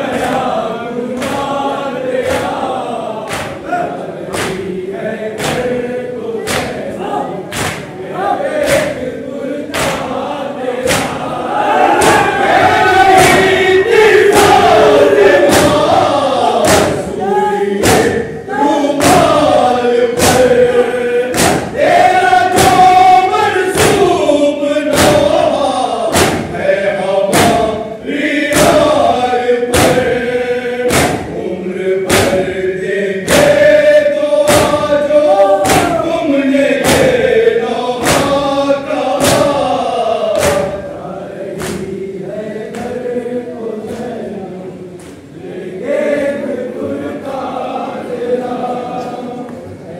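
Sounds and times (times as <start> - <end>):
men chanting in unison: 0.0 - 49.9.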